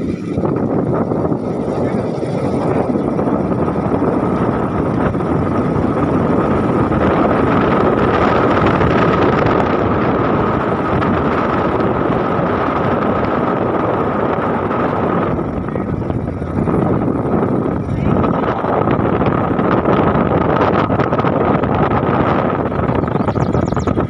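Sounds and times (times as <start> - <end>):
vehicle driving: 0.0 - 24.0
wind noise on microphone: 0.0 - 24.0.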